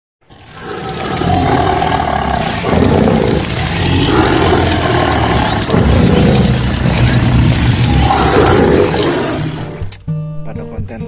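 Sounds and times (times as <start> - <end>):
tiger roaring: 0.3 - 9.9.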